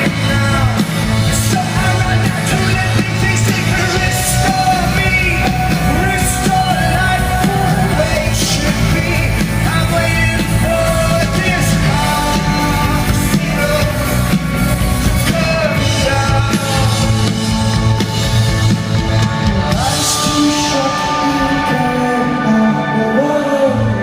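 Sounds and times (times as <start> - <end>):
lead singer singing: 0.0 - 24.0
rock band playing live: 0.0 - 24.0.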